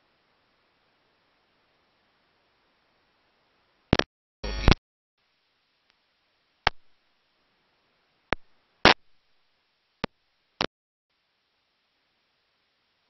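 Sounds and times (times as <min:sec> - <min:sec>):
faint hiss: 0:00.0 - 0:03.9, 0:05.2 - 0:13.0.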